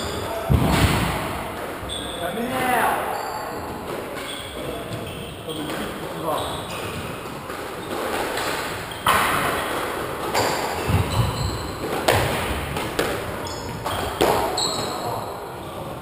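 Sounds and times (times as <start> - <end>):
squash ball striking rackets and walls: 0.0 - 2.1, 3.7 - 15.4.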